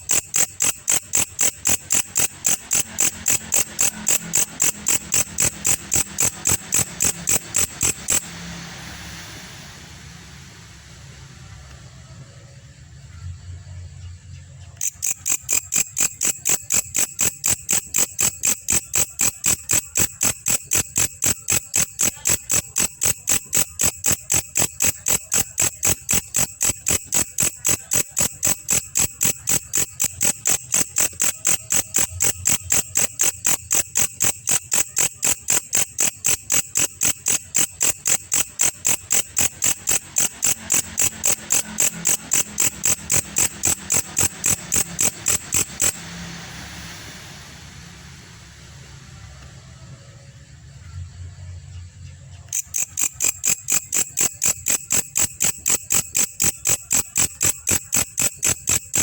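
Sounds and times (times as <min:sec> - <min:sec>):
insect chirping: 0:00.0 - 0:59.0.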